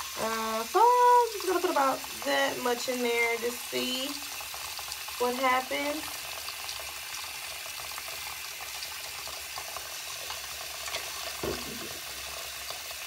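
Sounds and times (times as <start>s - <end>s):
faucet running into basin: 0.0s - 13.0s.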